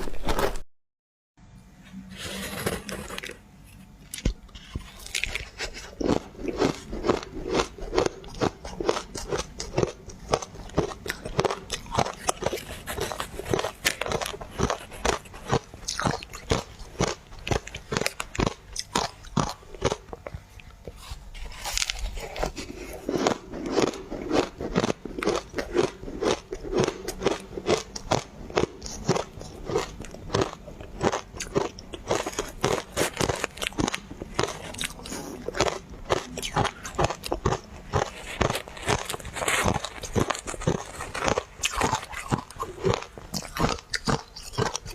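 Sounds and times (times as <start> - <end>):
person crunching ice: 4.8 - 20.2, 21.1 - 44.9.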